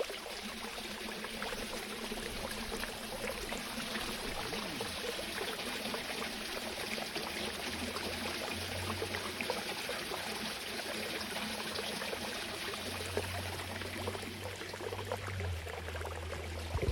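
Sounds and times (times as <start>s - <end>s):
small water splashes and drips: 0.0s - 16.9s
water flowing and trickling: 0.0s - 16.9s.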